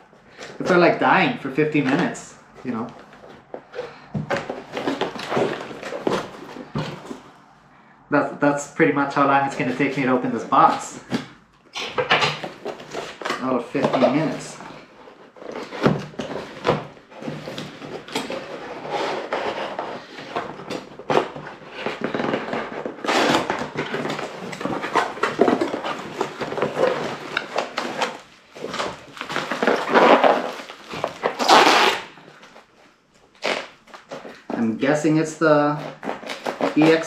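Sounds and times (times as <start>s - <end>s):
packing rustling and crackling: 0.1s - 7.6s, 9.5s - 34.8s, 35.4s - 37.0s.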